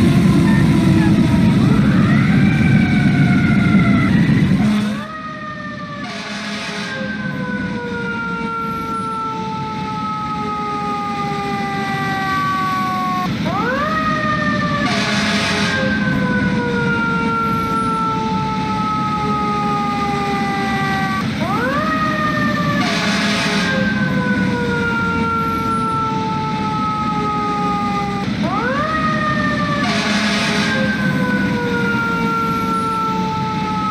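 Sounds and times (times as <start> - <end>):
engine and traffic rumble: 0.0 - 33.9
fire truck siren wailing: 0.0 - 33.9.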